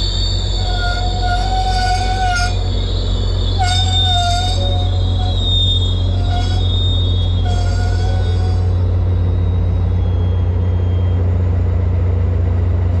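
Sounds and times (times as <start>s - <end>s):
high wheel squeal: 0.0s - 11.3s
train cars rumbling past: 0.0s - 13.0s.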